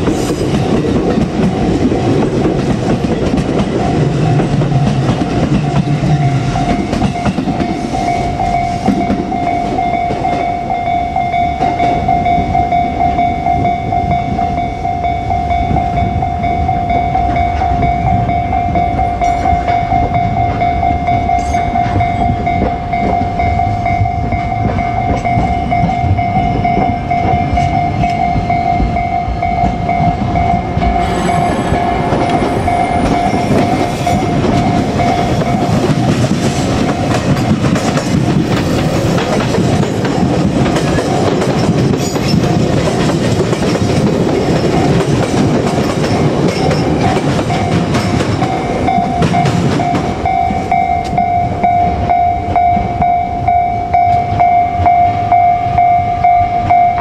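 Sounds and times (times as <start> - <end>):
level-crossing warning bell ringing: 0.0 - 57.0
train rumble and wheel clatter: 0.0 - 57.0.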